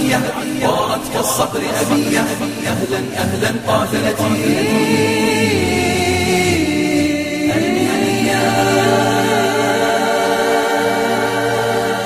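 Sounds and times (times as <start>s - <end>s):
male voices singing unaccompanied: 0.0s - 12.0s.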